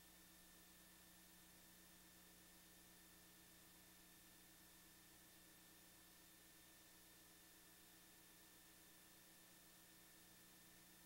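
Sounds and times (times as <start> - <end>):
faint steady hiss: 0.0 - 11.0
low electrical hum: 0.0 - 11.0.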